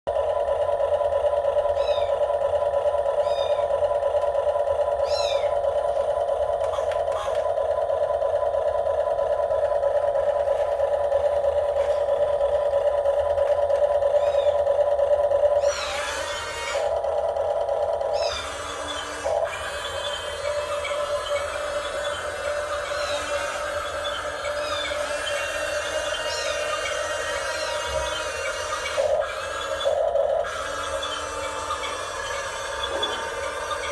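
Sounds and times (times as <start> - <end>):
electric motor whine: 1.8 - 33.9.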